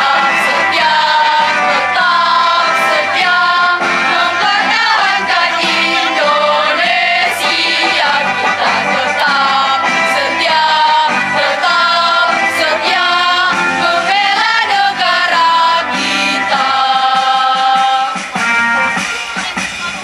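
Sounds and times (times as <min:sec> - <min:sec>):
girls' choir singing: 0:00.0 - 0:18.3.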